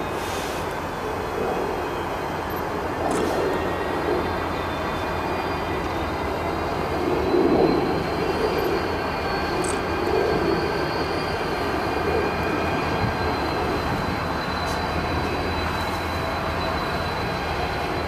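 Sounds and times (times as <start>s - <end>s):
diesel locomotive engines running: 0.0s - 18.0s.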